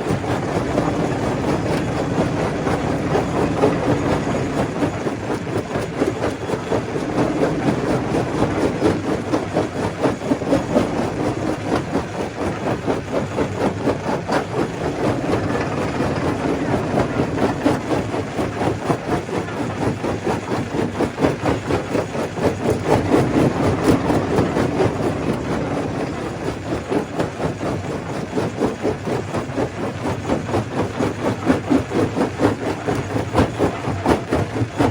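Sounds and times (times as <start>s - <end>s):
machine drone: 0.0s - 34.9s.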